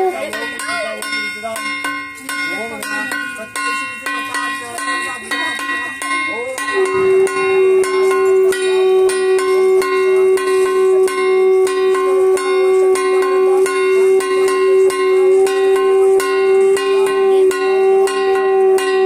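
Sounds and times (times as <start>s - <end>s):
bells ringing rhythmically: 0.0s - 19.0s
continuous ringing tone: 0.0s - 19.0s.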